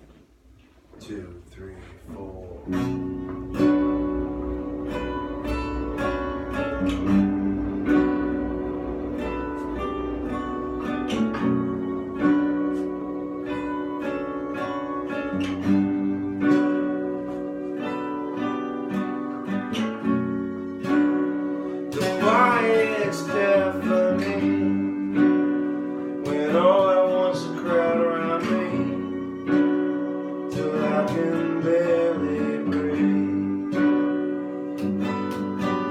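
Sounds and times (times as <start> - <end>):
acoustic guitar chords: 0.0 - 35.9.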